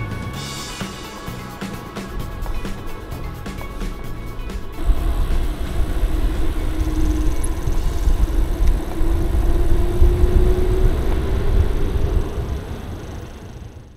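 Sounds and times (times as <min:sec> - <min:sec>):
faint steady hum: 0:00.0 - 0:13.9
wind rumbling on microphone: 0:01.3 - 0:13.9.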